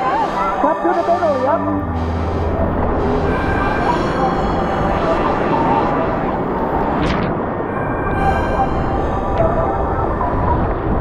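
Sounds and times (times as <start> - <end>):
background music with held tones: 0.0 - 7.0, 7.6 - 11.0.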